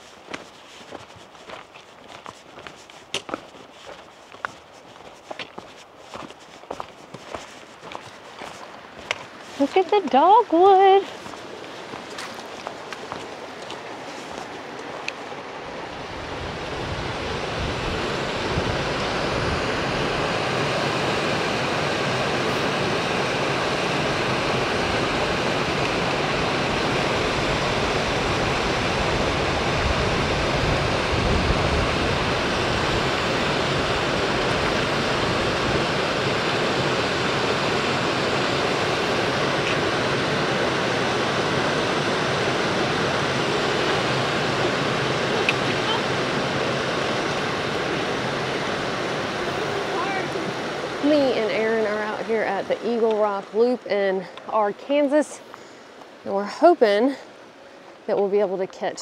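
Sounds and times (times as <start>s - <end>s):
water rushing over stones: 6.6s - 54.0s.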